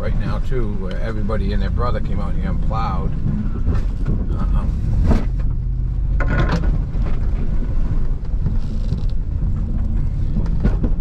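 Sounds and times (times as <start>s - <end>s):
driving through slush and mud: 0.0s - 11.0s
truck engine running: 0.0s - 11.0s.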